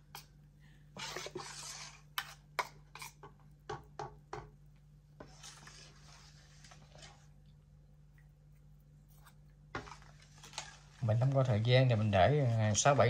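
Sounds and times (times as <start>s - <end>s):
spoon stirring batter: 0.0s - 13.0s.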